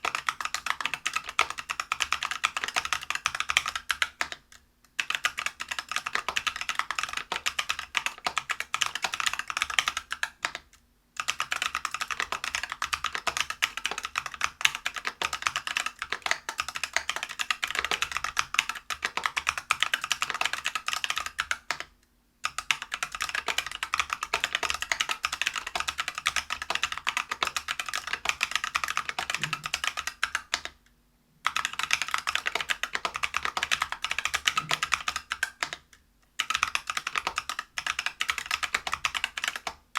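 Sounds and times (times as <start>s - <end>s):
fast mechanical keyboard typing: 0.0s - 30.8s, 31.4s - 39.9s.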